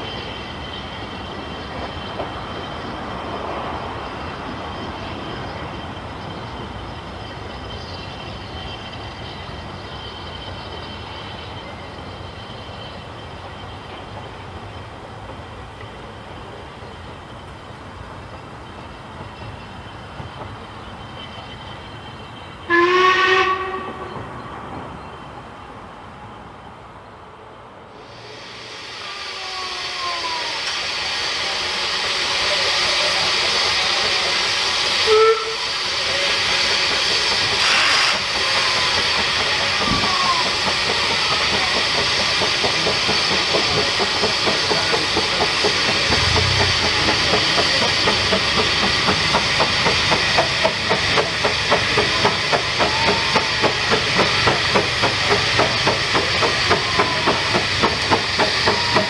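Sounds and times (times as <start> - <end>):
steam locomotive chuffing: 0.0 - 24.4, 28.0 - 59.0
steam locomotive hissing: 0.0 - 59.0.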